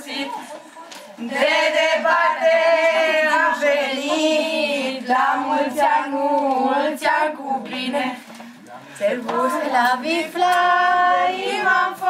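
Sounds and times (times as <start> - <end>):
young women singing a carol: 0.0 - 12.0.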